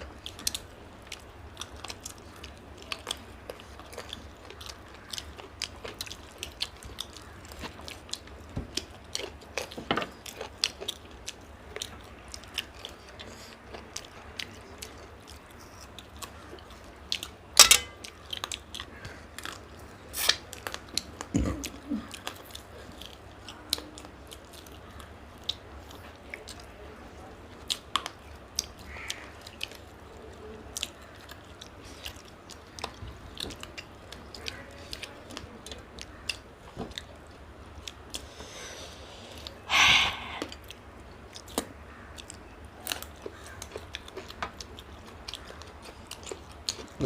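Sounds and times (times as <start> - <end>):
people chewing food: 0.0 - 47.0.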